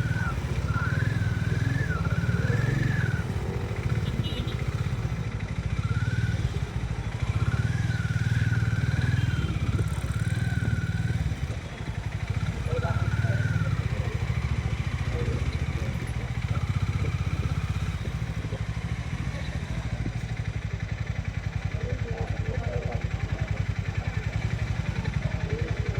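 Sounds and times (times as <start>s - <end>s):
motorcycle engine running: 0.0s - 25.9s
road and wind noise: 0.0s - 25.9s.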